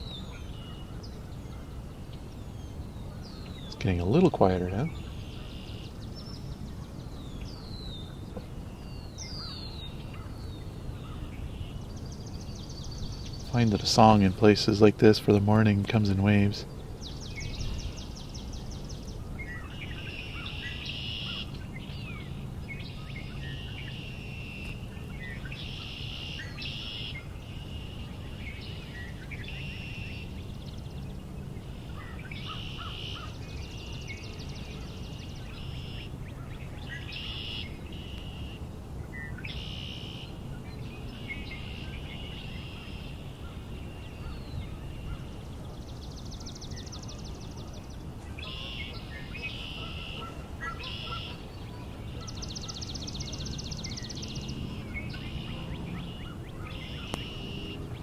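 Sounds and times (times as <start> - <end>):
low steady background rumble: 0.0 - 58.0
songbirds singing: 0.0 - 58.0.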